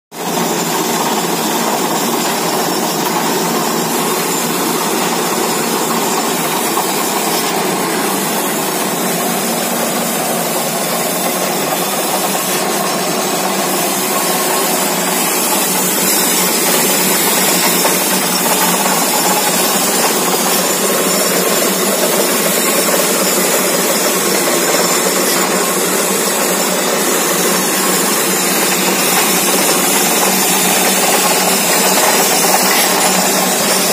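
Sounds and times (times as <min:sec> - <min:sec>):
drilling rig mechanical din: 0:00.2 - 0:33.9.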